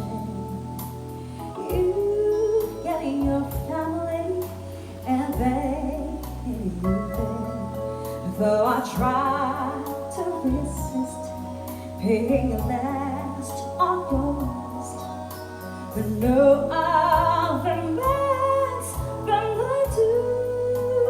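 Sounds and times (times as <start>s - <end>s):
person singing: 0.0s - 21.0s
steady bass: 0.0s - 21.0s.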